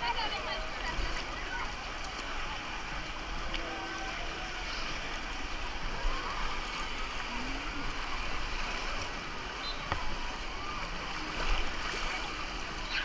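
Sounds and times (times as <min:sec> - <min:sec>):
faint distant voices: 0:00.0 - 0:13.0
water rushing and splashing: 0:00.0 - 0:13.0.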